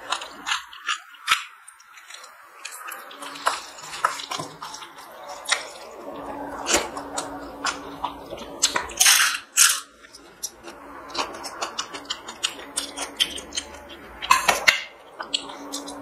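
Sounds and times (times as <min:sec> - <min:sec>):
fingers mixing wet rice: 0:00.0 - 0:16.0.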